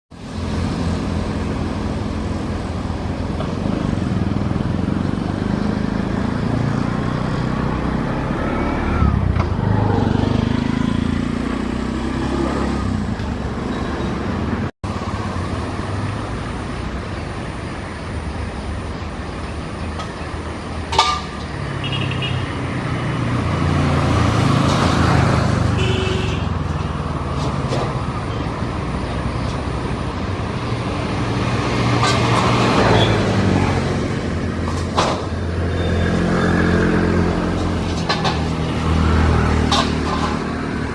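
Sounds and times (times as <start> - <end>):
vehicles passing: 0.1 - 40.9.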